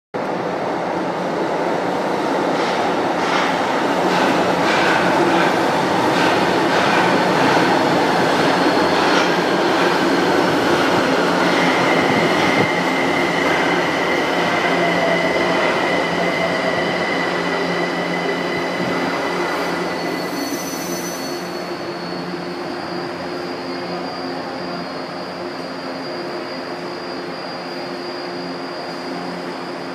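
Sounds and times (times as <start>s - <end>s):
train whine: 0.2s - 29.9s.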